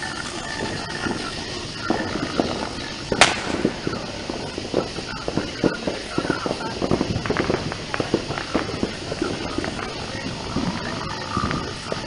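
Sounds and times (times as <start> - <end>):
firework bang: 0.0 - 12.0
firework crackles: 0.0 - 12.0.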